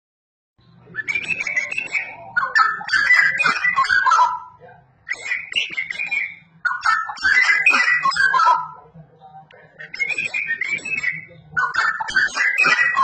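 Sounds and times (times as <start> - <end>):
bird singing warbled phrases: 0.6 - 13.0.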